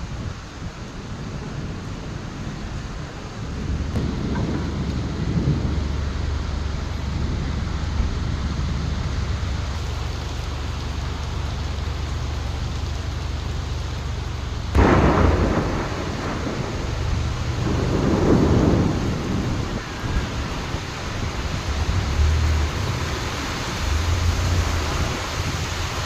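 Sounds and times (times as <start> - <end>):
steady rain: 0.0 - 26.0
thunder clap and rumble: 0.0 - 26.0.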